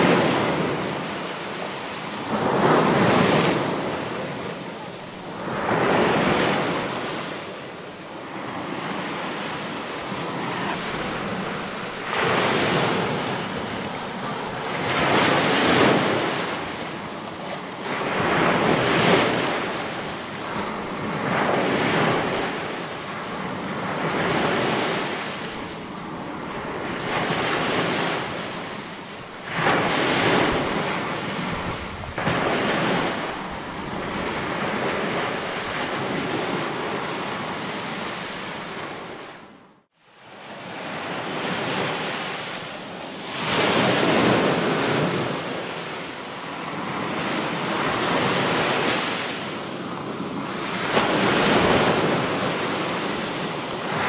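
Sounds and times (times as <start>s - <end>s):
ocean waves breaking: 0.0s - 39.4s, 40.6s - 54.0s.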